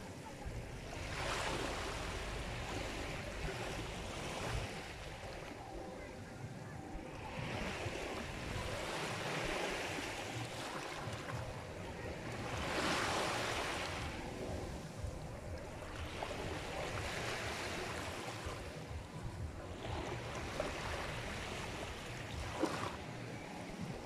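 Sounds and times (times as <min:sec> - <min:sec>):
sea waves surging: 0:00.0 - 0:24.0.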